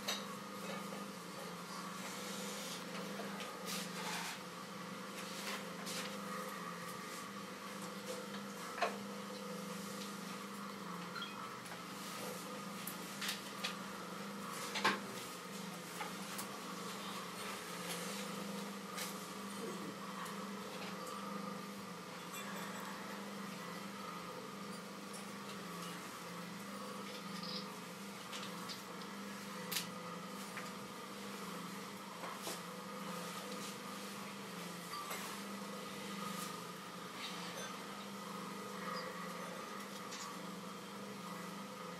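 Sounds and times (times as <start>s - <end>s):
potter's wheel motor humming: 0.0s - 41.9s.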